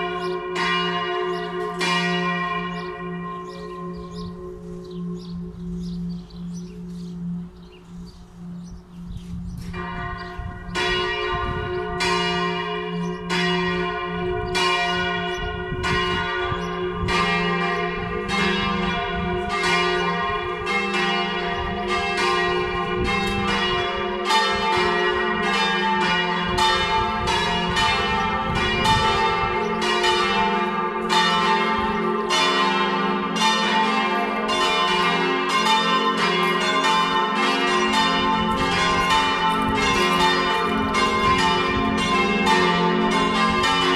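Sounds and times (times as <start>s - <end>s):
church bells pealing: 0.0s - 43.9s.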